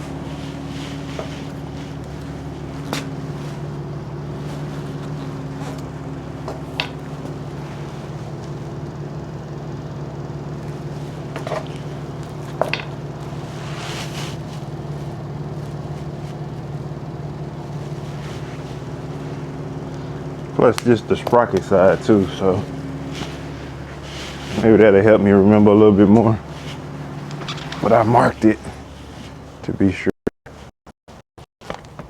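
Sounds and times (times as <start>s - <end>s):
rustle of handling: 0.0s - 29.6s
low mechanical hum: 0.0s - 30.0s.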